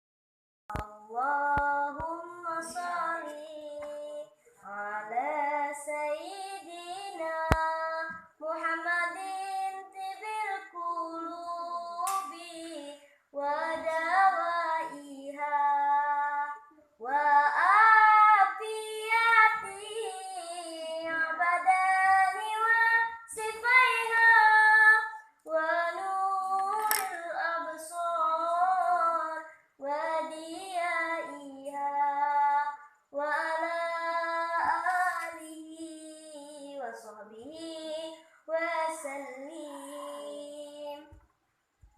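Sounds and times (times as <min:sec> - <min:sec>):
child singing: 0:00.7 - 0:41.3.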